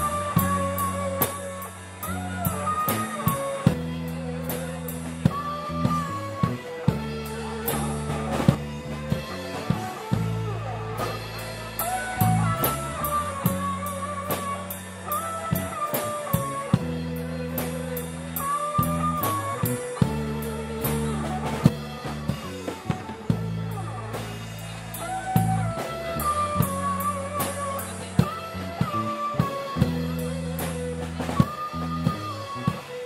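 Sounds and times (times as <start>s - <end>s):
electric guitar bending long notes: 0.0s - 33.0s
live rock band playing: 0.0s - 33.0s.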